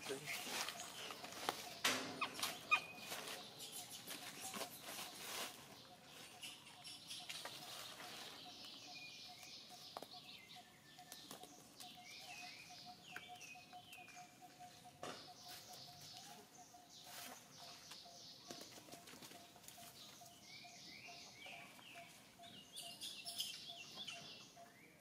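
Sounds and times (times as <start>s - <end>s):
small bird chirping: 0.1s - 25.0s.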